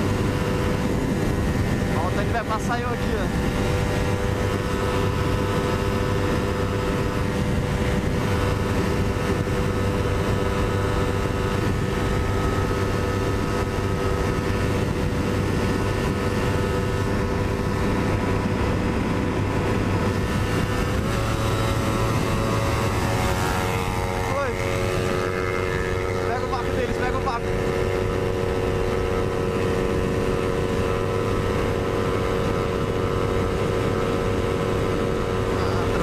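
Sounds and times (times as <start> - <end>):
motorcycle engine at high revs: 0.0 - 36.0
wind noise: 0.0 - 36.0.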